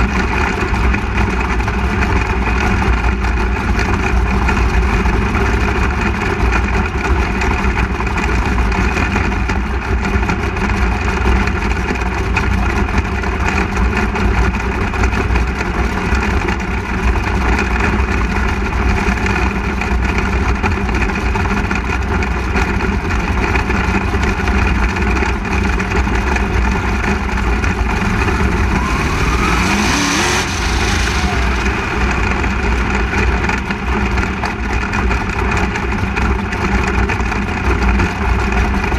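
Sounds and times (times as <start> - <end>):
race car engine drone: 0.0 - 38.9.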